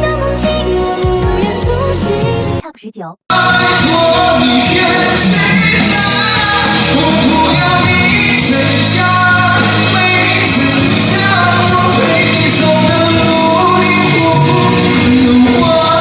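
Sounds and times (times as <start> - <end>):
pop song with singing: 0.0 - 2.7, 3.3 - 16.0.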